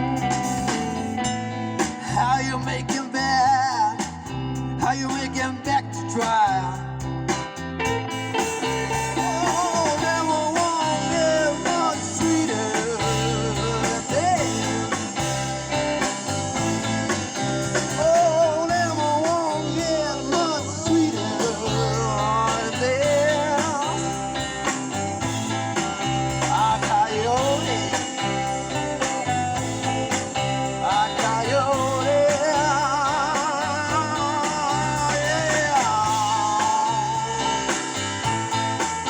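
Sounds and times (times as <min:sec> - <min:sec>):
bending lead melody: 0:00.0 - 0:03.7, 0:04.3 - 0:39.0
bass line: 0:00.0 - 0:39.0
live rock band playing: 0:00.0 - 0:39.0.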